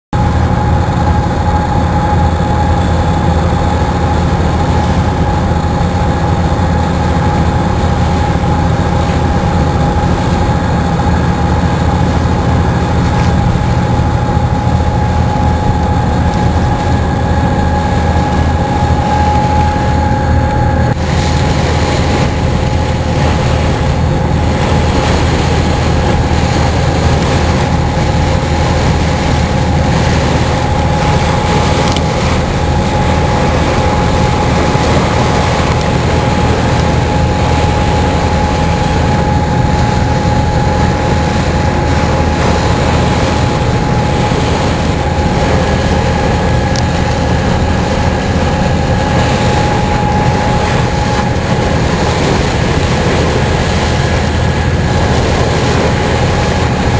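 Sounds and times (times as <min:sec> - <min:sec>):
ferry engines droning: 0:00.1 - 0:56.9.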